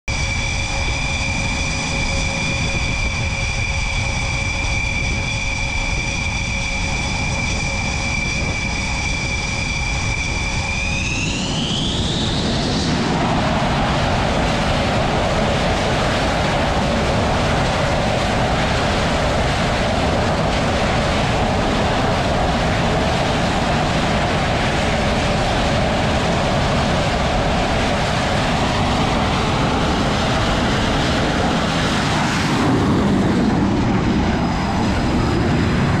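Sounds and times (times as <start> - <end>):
jet engines whining and roaring: 0.1 - 36.0.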